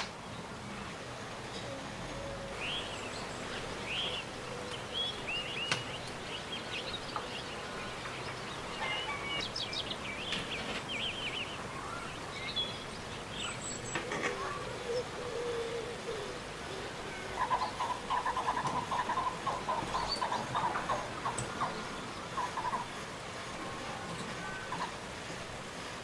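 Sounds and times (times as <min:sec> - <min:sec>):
steady background hiss: 0:00.0 - 0:26.0
small birds chirping: 0:01.6 - 0:25.1.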